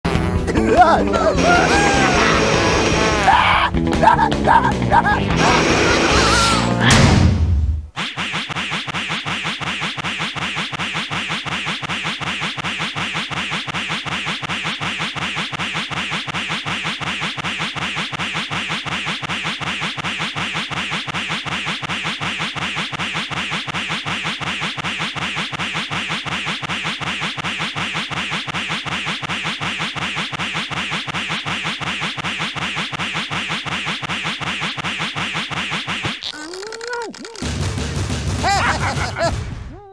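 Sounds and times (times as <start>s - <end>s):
rapid scratch-like cartoon pulses: 1.4s - 6.8s, 7.9s - 39.9s.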